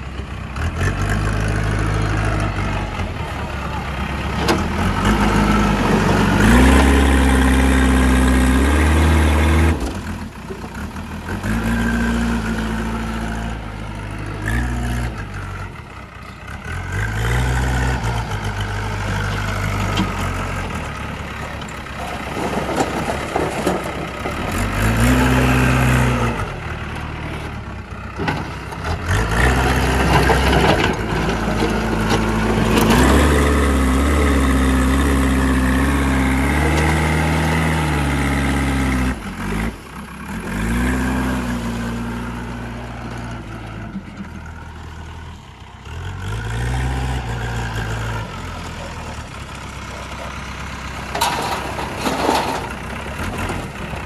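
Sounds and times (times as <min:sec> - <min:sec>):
diesel engine revving under load: 0:00.0 - 0:54.0.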